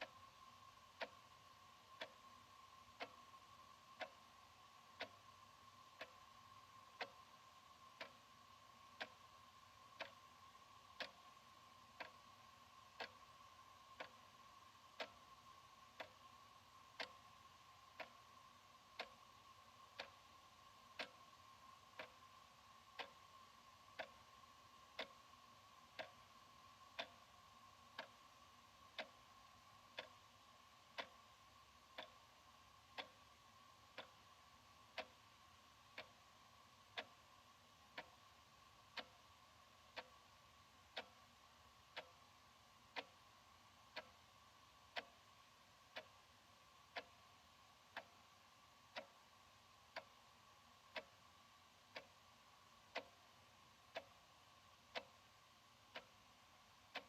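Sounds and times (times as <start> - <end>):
faint high tone hum: 0.0 - 57.0
wall clock ticking: 0.0 - 57.0.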